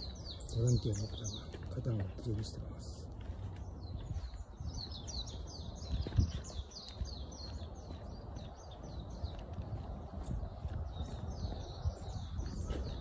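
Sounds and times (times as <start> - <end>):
low rumble from walking: 0.0 - 13.0.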